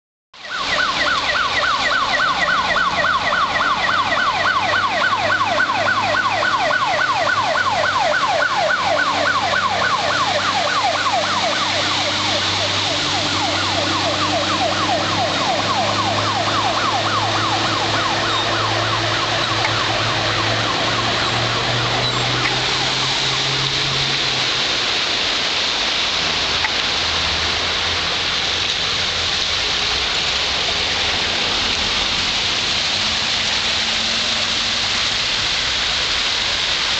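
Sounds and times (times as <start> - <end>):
fire engine siren yelp: 0.4 - 36.9
tyres splashing through water: 0.4 - 36.9
truck engine hum: 2.2 - 35.6.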